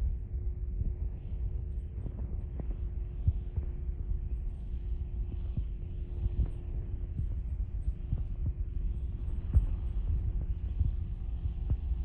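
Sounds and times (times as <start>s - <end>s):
light aircraft droning overhead: 0.0s - 12.0s.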